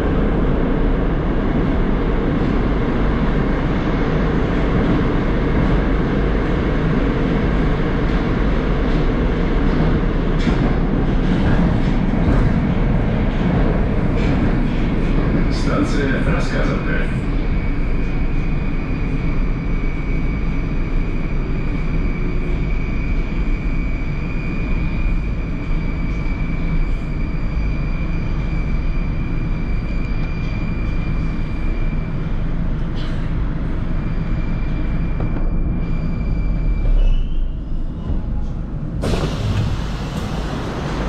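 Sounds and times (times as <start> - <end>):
metro car low rumble: 0.0 - 41.0.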